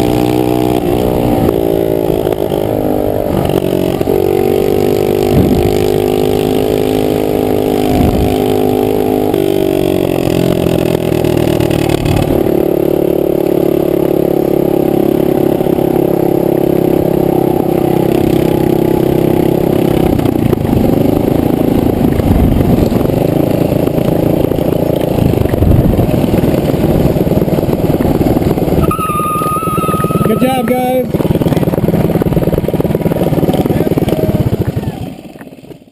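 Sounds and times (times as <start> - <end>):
minibike engines running hard: 0.0 - 35.9.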